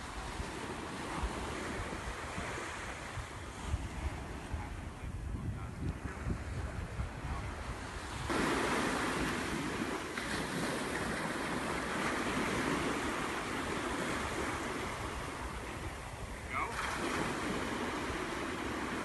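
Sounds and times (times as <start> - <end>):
ocean surf breaking on beach: 0.0 - 19.0
wind rumbling on microphone: 0.0 - 19.0.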